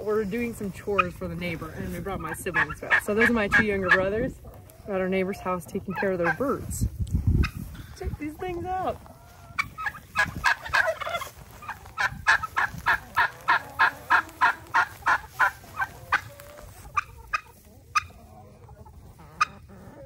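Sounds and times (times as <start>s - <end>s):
turkeys gobbling: 0.6s - 6.7s, 9.0s - 20.0s.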